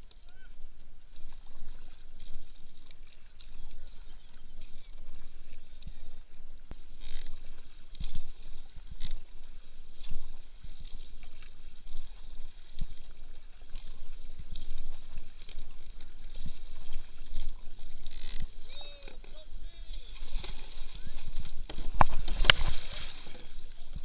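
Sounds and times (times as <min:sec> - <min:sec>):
paddle strokes splashing water: 0:00.0 - 0:24.0.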